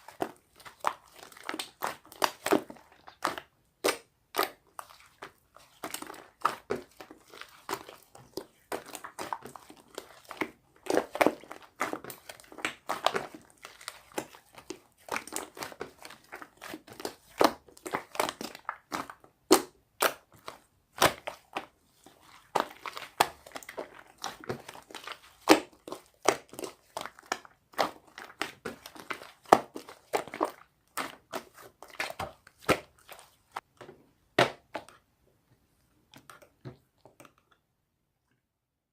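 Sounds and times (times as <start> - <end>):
slime crackling and popping: 0.1 - 33.6.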